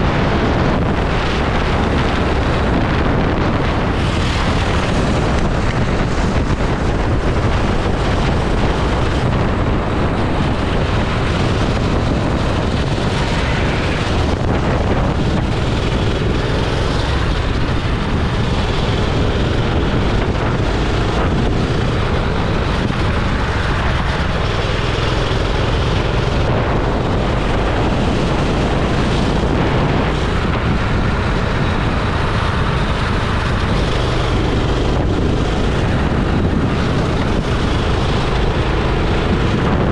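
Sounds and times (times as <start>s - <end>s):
go-kart engine running: 0.0s - 39.9s
wind buffeting microphone: 0.0s - 39.9s.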